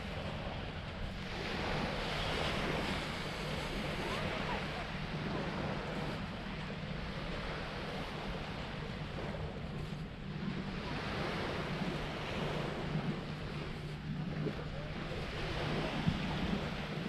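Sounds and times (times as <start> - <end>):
small waves breaking on beach: 0.0 - 17.0
wind rumbling on microphone: 0.0 - 17.0.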